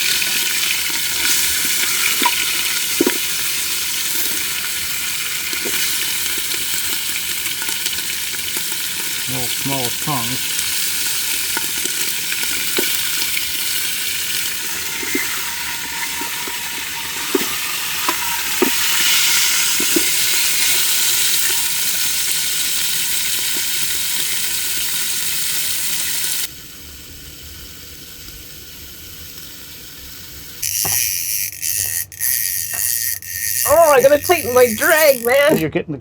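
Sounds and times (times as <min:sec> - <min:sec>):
meat sizzling in a pan: 0:00.0 - 0:35.6.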